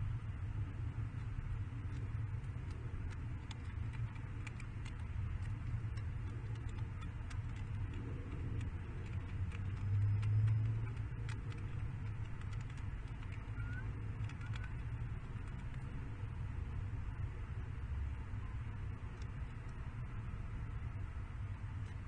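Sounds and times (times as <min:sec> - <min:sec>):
gravel clicking under pecking: 0:00.5 - 0:20.9.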